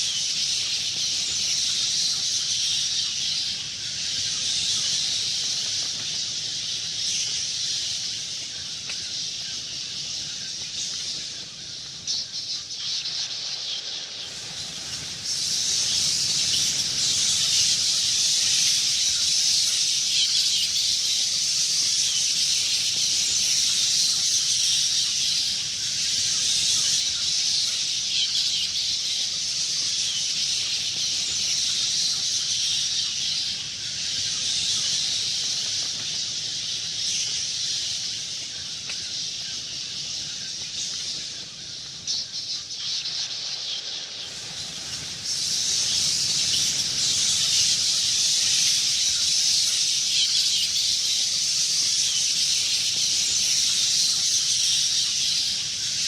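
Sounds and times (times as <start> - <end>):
bats chittering: 0.0 - 56.0.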